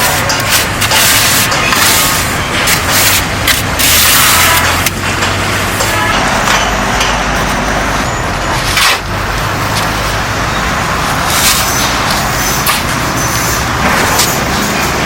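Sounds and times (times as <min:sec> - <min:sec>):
clattering scraping noise: 0:00.0 - 0:10.0, 0:11.1 - 0:15.0
engine running: 0:00.0 - 0:15.0.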